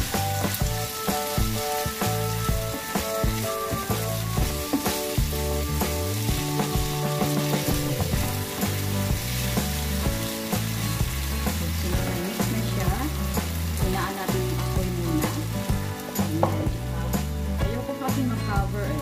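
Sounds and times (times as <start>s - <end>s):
background music: 0.0s - 19.0s
meat sizzling in a frying pan: 0.0s - 19.0s.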